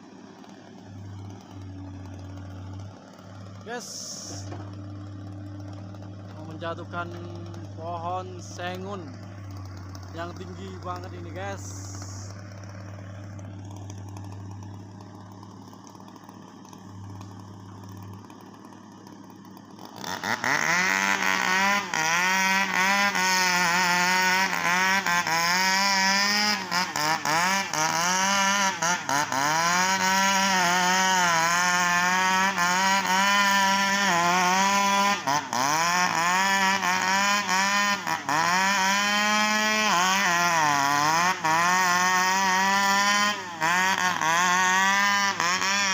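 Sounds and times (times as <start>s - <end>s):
low engine hum: 0.0s - 39.7s
chainsaw cutting wood: 0.0s - 45.9s.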